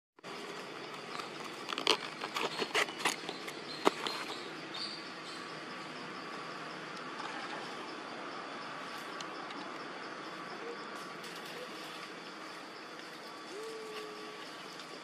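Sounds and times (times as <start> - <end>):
insects humming: 0.2 - 15.0.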